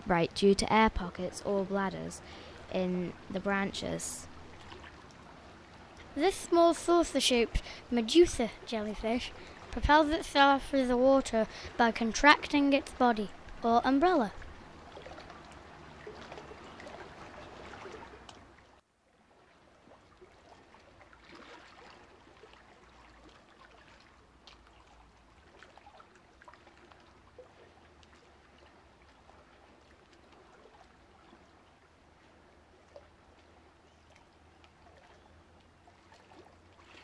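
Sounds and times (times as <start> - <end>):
faint water-like noise: 0.0 - 37.0.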